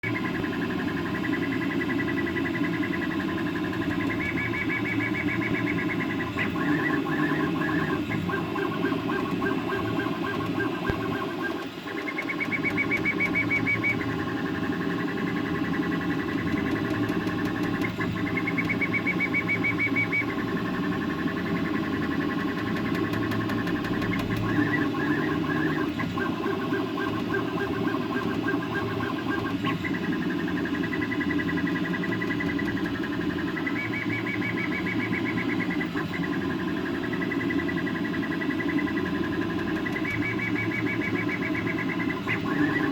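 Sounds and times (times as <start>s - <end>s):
steady low whir: 0.0s - 42.9s
stepper motors whining: 0.1s - 42.9s.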